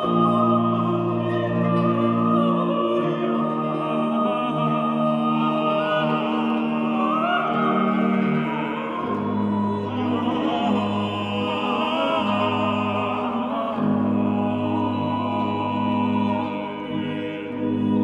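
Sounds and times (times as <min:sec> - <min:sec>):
chamber organ: 0:00.0 - 0:18.0
male choir singing: 0:00.0 - 0:18.0.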